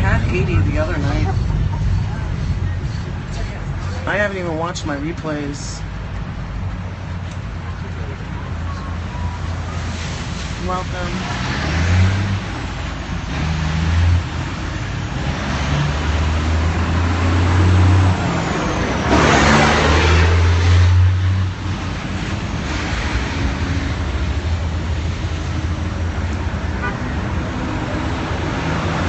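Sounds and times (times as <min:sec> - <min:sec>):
loud rush of noise: 0:00.0 - 0:29.0
road and wind noise: 0:00.0 - 0:29.0
vehicle engine drone: 0:00.0 - 0:29.0.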